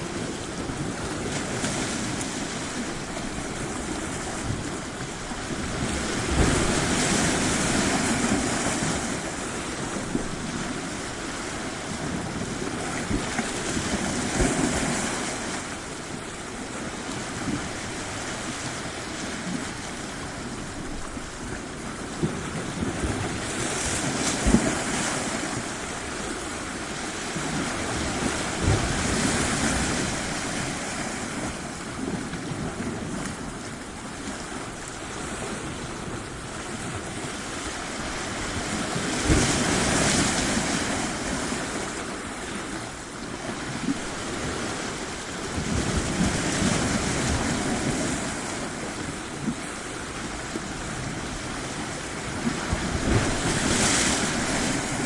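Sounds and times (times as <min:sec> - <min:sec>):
waves breaking on shore: 0:00.0 - 0:55.0
wind buffeting microphone: 0:00.0 - 0:55.0.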